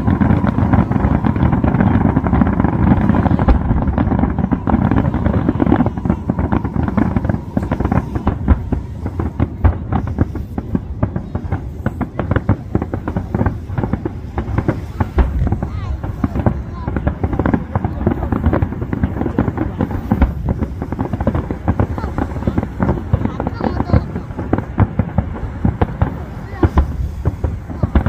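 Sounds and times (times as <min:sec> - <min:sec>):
fireworks crackling: 0:00.0 - 0:28.0
low fireworks rumble: 0:00.0 - 0:28.0.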